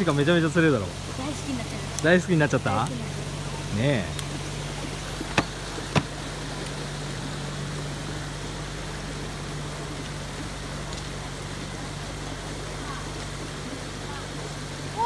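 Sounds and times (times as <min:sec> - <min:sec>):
low motor hum: 0:00.0 - 0:15.0
outdoor background noise: 0:00.0 - 0:15.0.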